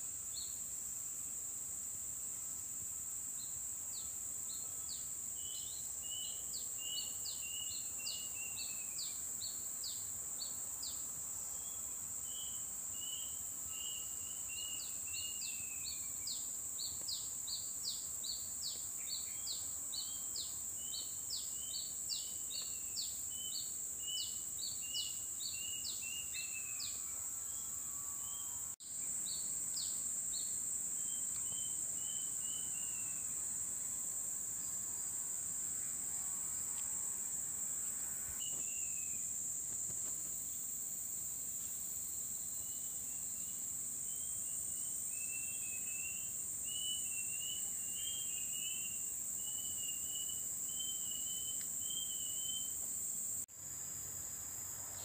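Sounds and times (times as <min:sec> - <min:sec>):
insect drone: 0:00.0 - 0:55.0
songbird singing: 0:03.3 - 0:40.6, 0:41.6 - 0:53.1.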